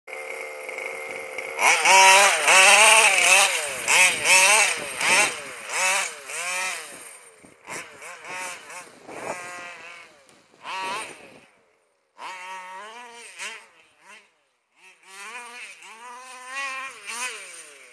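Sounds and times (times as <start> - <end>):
rc buggy engine revving: 0.1 - 17.9.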